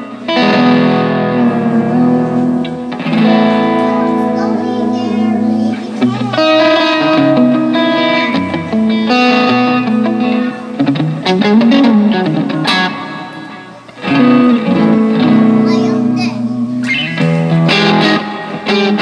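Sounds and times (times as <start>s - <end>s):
electric guitar notes and chords: 0.0s - 19.0s.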